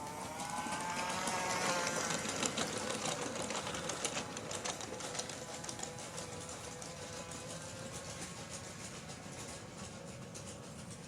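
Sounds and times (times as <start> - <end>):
wheels clicking over track joints: 0.0 - 11.0.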